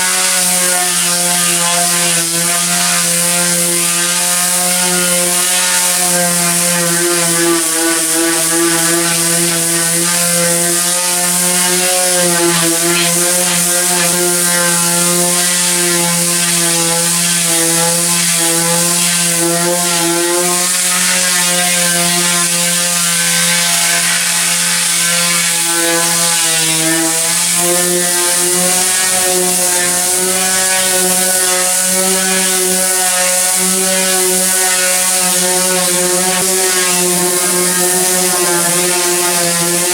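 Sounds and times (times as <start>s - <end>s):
electric sander on paint: 0.0s - 39.9s.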